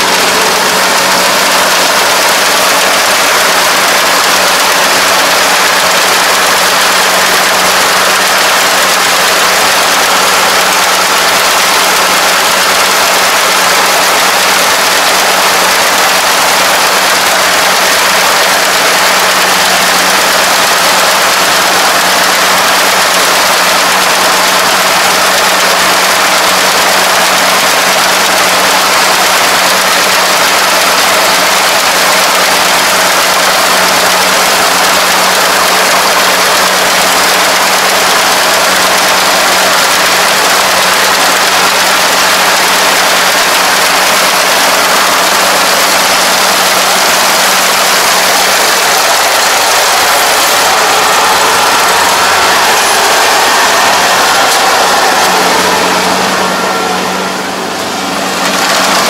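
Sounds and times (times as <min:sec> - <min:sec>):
harvester engine drone: 0:00.0 - 0:59.0.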